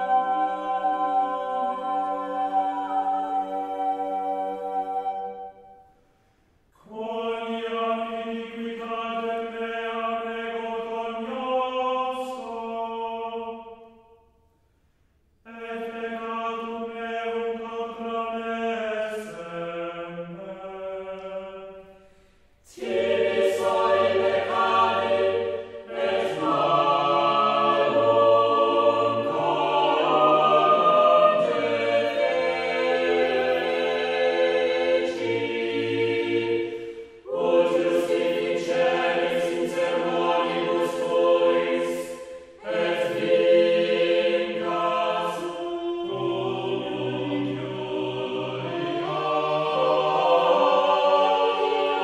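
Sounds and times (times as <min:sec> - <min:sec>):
choral music: 0:00.0 - 0:52.0.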